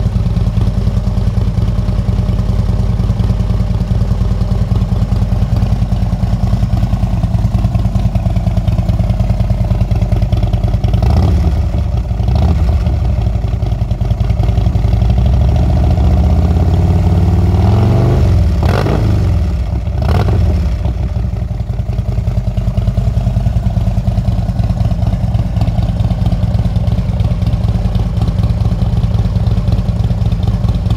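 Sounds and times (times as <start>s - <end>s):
motorcycle engine revving and idling: 0.0s - 30.9s.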